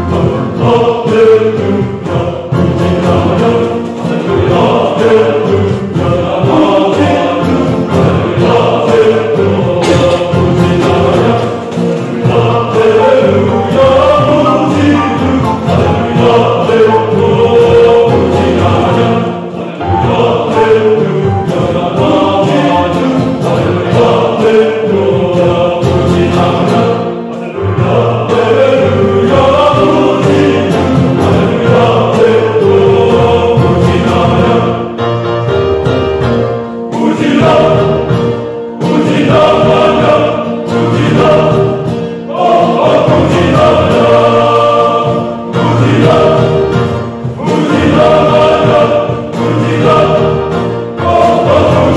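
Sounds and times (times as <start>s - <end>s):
male choir singing a hymn: 0.0s - 51.9s.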